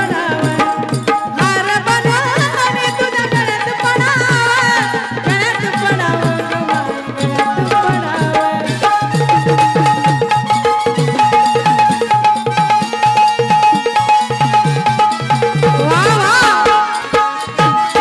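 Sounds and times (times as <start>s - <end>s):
folk drums beating: 0.0s - 18.0s.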